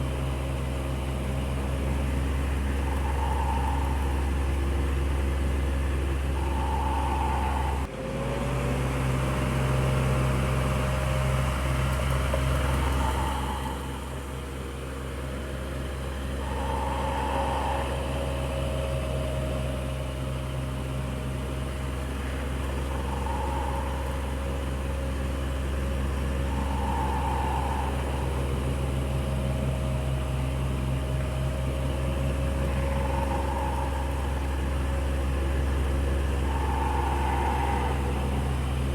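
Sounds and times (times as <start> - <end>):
electric fan whirring: 0.0 - 38.9
faint higher hum: 0.0 - 38.9.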